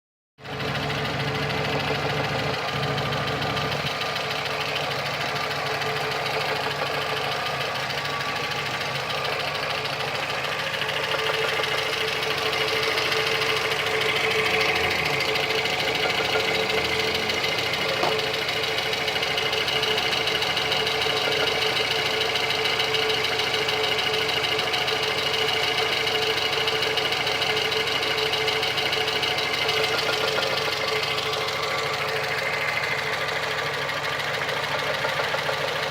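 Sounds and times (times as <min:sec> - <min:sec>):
car engine idling: 0:00.4 - 0:35.9
rapid engine knock: 0:00.4 - 0:35.9.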